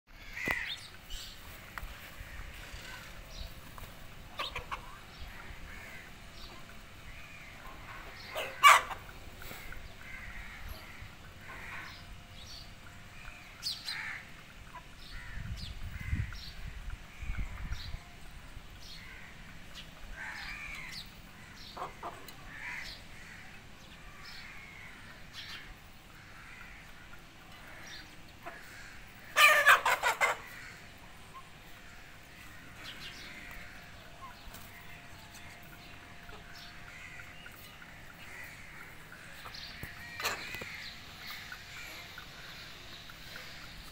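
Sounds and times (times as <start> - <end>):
chicks calling softly: 0.1 - 43.9.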